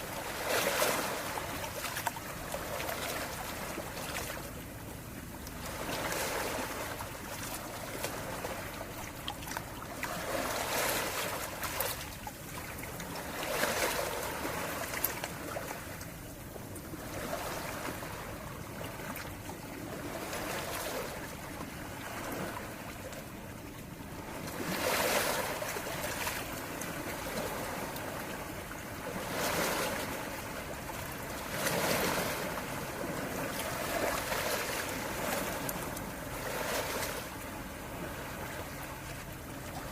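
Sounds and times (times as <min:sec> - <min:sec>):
sea waves washing: 0:00.0 - 0:16.2, 0:16.8 - 0:23.4, 0:24.0 - 0:39.9.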